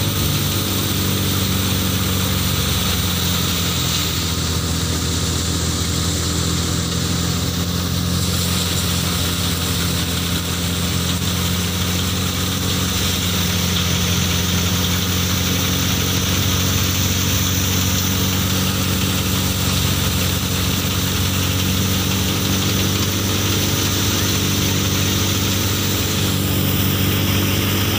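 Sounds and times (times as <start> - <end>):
thresher drum and blower running: 0.0 - 27.9
tractor engine drone: 0.0 - 27.9.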